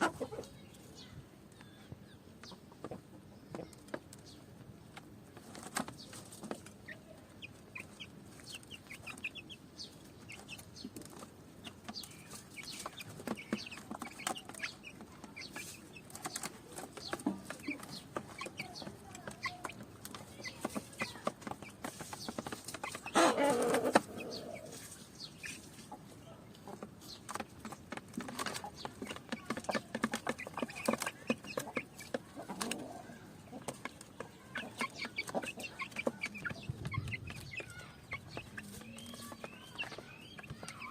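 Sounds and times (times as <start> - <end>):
chicks peeping: 0.0 - 40.9
hen clucking: 0.0 - 40.9.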